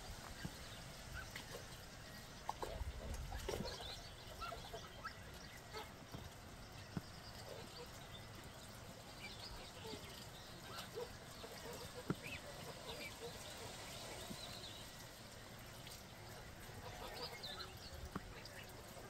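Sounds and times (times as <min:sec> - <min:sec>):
goslings peeping: 0:00.2 - 0:19.0
bills splashing in water: 0:00.4 - 0:19.0.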